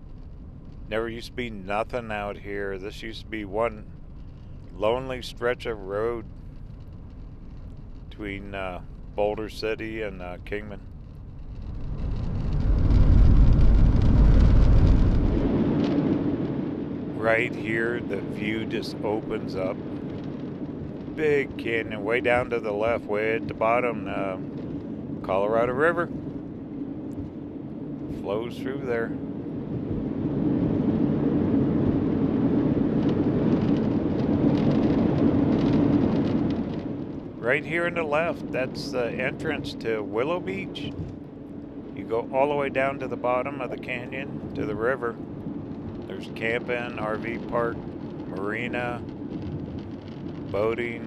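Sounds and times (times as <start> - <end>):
van road and wind noise: 0.0 - 51.0.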